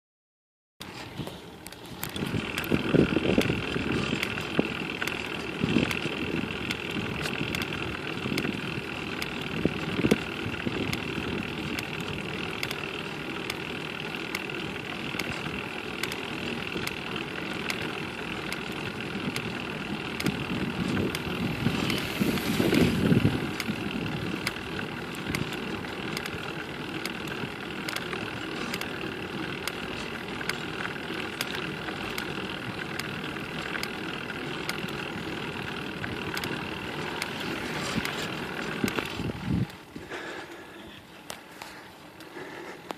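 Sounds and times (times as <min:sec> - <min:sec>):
motor hum with faint whine: 0:00.9 - 0:42.9
low rumbles: 0:01.2 - 0:40.7
even repeated clicking: 0:01.6 - 0:39.8.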